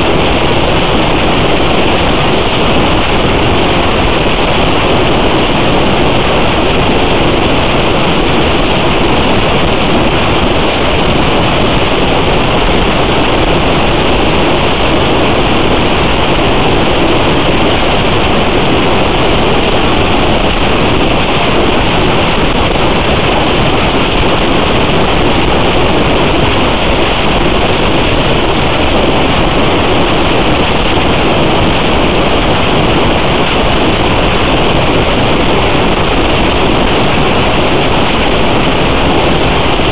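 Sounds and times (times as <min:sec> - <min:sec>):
loud rushing noise: 0:00.0 - 0:39.9.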